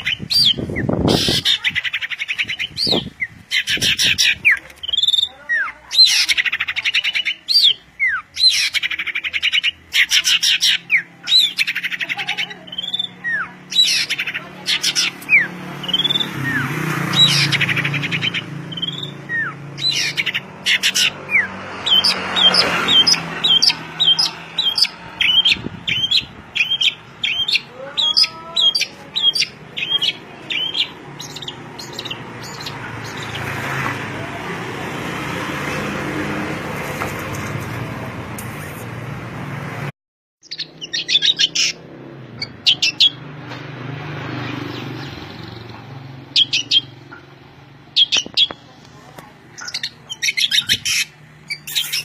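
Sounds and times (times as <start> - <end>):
songbird singing: 0.0 - 35.7, 40.4 - 52.0.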